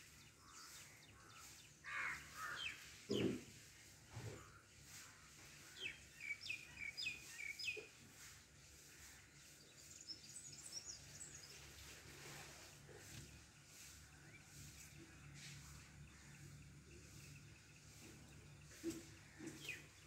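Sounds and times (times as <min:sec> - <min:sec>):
small birds calling: 0:00.0 - 0:20.0.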